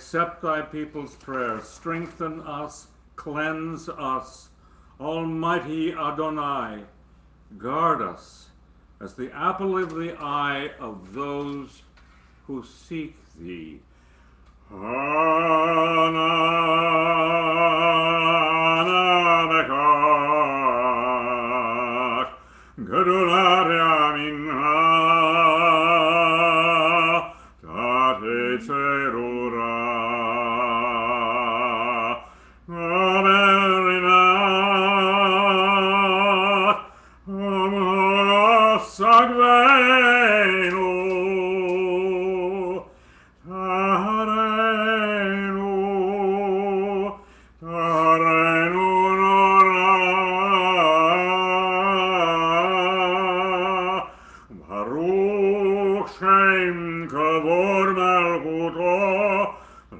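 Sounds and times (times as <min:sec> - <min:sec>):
man singing a slow chant: 0:00.0 - 0:13.9, 0:14.6 - 0:59.9.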